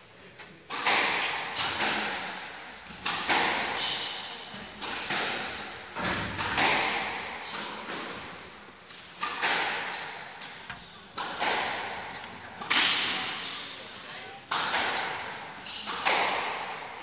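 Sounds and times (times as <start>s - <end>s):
court shoes squeaking: 0.7s - 17.0s.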